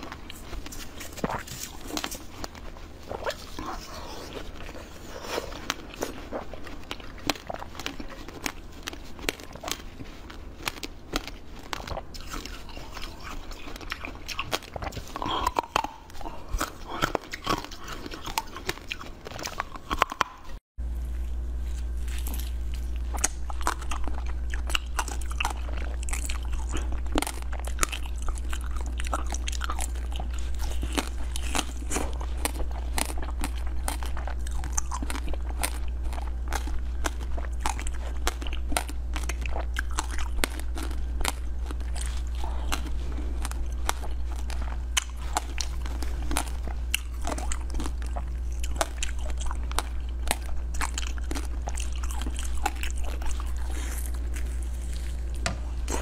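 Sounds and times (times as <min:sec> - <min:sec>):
person crunching and chewing: 0:00.0 - 0:56.0
steady low hum: 0:00.0 - 0:56.0.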